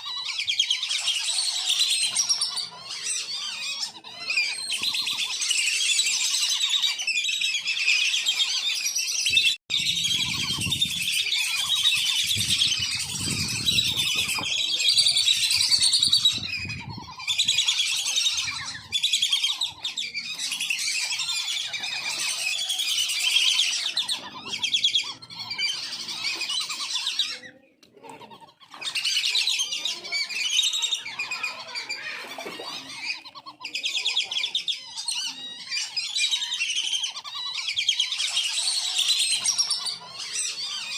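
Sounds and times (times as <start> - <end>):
ducks whistling: 0.0 - 40.9.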